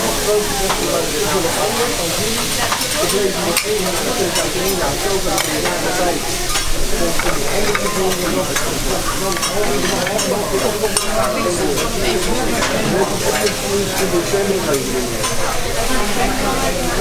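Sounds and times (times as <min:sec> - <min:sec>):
food sizzling on a griddle: 0:00.0 - 0:17.0.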